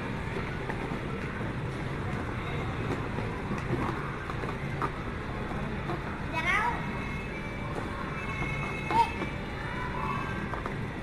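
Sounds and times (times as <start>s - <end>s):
busy indoor play area din: 0.0s - 11.0s.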